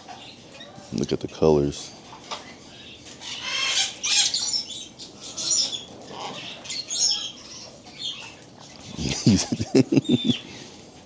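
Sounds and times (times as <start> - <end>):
pet birds calling and chattering: 0.0 - 10.9.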